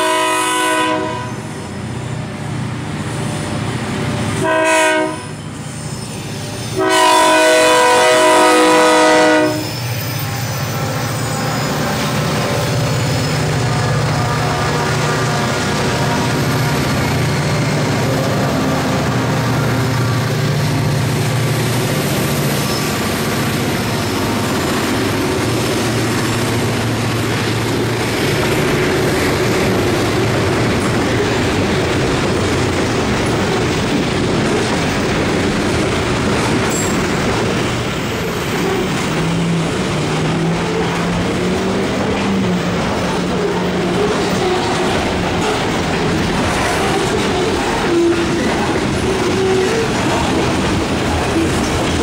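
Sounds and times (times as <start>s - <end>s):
diesel locomotives droning: 0.0s - 52.0s
freight cars rumbling on rails: 0.0s - 52.0s.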